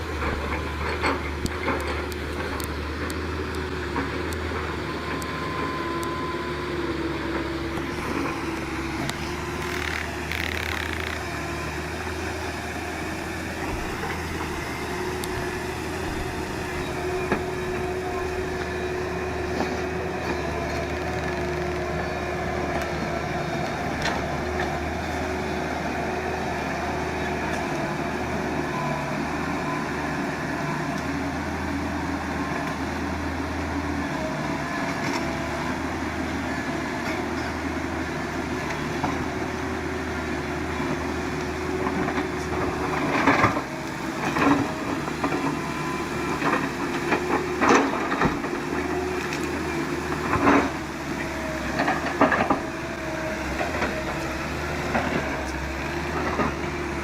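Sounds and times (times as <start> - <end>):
heavy vehicle engine droning: 0.0 - 57.0.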